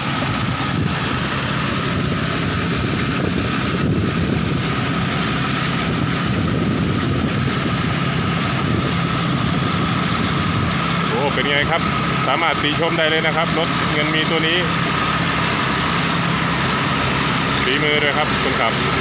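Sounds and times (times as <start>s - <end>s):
combine harvester engine and threshing: 0.0s - 19.0s.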